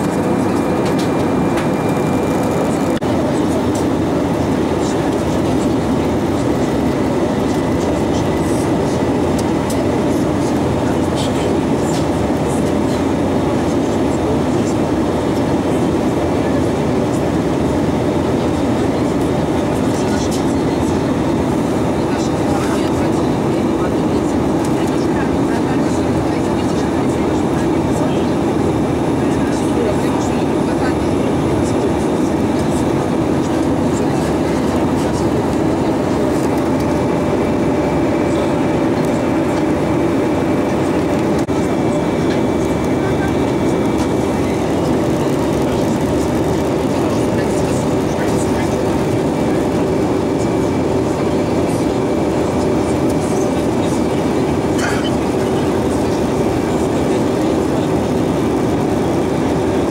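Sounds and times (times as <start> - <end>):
airplane cabin rumble: 0.0 - 59.9.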